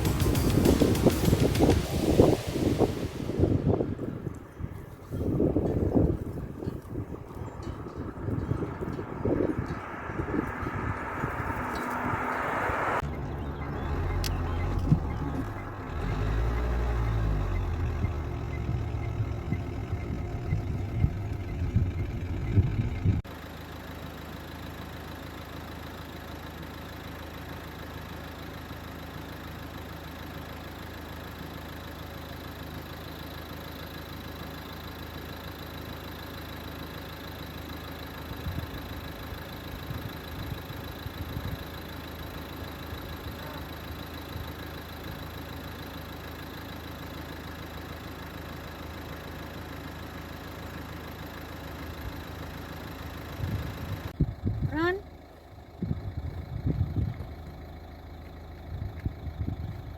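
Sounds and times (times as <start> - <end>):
engine rumbling and idling: 0.0 - 59.9.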